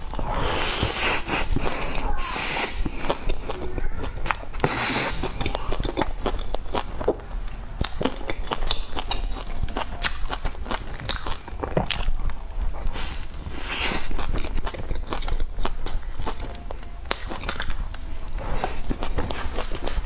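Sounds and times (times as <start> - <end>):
chewing crisp bread: 0.0 - 20.0.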